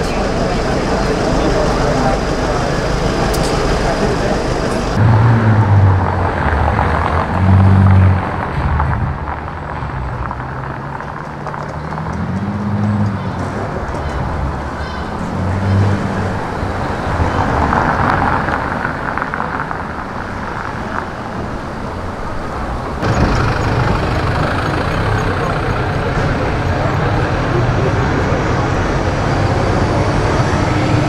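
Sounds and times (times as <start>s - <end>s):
car engines passing: 0.0s - 31.0s
road noise: 0.0s - 31.0s.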